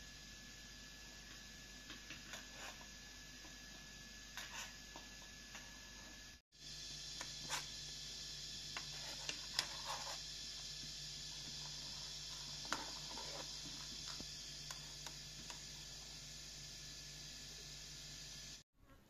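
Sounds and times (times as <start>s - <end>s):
steady hiss: 0.0s - 18.6s.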